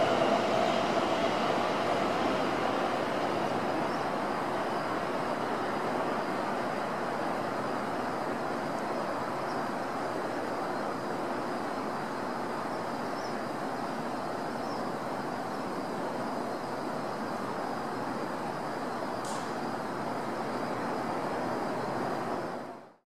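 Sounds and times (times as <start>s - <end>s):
train rumbling at low speed: 0.0s - 23.0s.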